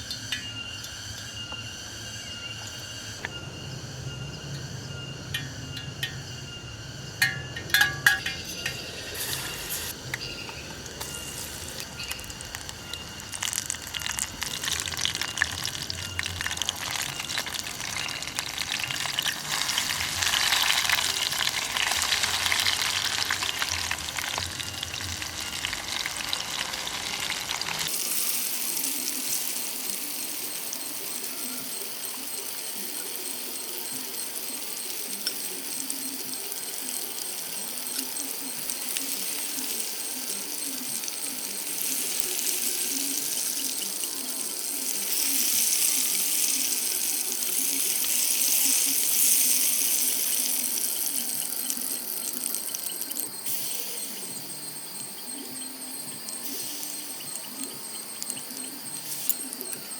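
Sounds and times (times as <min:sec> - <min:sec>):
thin steady hiss: 0:00.0 - 0:59.9
food sizzling in hot oil: 0:04.6 - 0:59.9.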